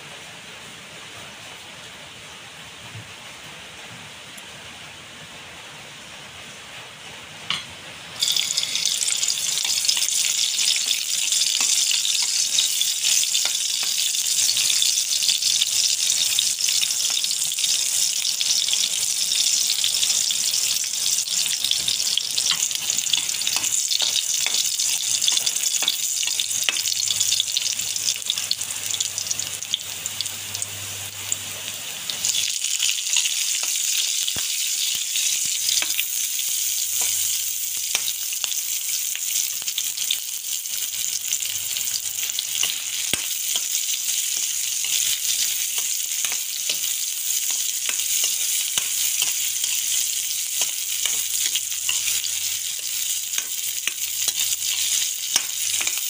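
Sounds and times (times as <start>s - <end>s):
garlic sizzling in hot oil: 7.5s - 56.0s.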